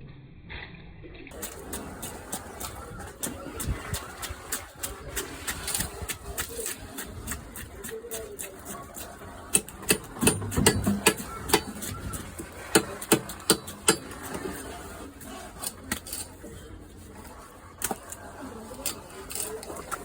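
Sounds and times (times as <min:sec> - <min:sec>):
blade chopping through fish: 0:01.3 - 0:20.0.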